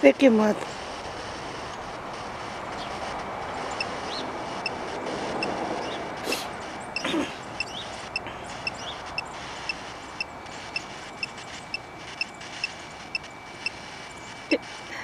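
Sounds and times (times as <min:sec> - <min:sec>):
short electronic blips: 0:00.6 - 0:15.0.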